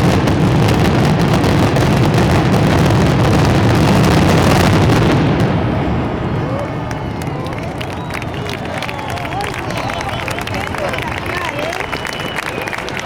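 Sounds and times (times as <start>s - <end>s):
fireworks explosions and crackles: 0.0s - 13.0s.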